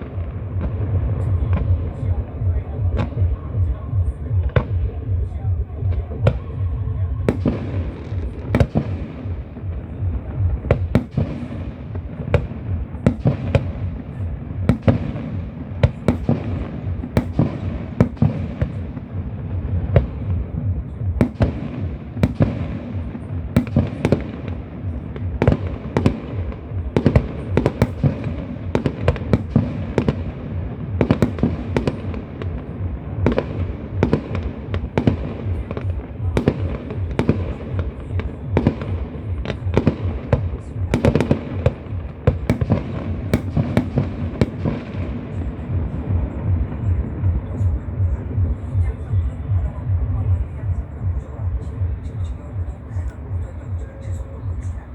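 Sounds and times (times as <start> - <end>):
fireworks bangs and crackles: 0.0 - 54.9
low rumble: 0.0 - 54.9.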